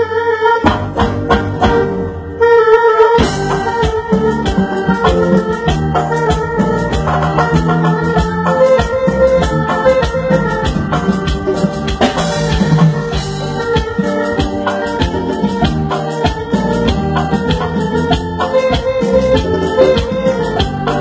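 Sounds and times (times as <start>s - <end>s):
organ-toned keyboard chords: 0.0s - 21.0s
steady drum beat: 3.2s - 21.0s.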